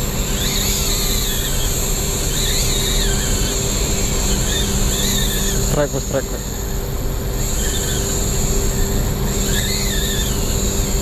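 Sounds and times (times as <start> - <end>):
steady engine hum: 0.0 - 11.0
fishing reel drag screaming: 0.1 - 11.0.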